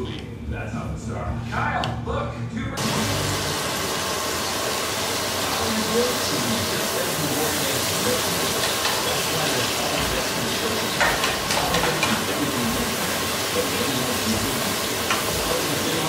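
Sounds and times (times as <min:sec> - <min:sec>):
meat sizzling in a frying pan: 0:02.8 - 0:16.0.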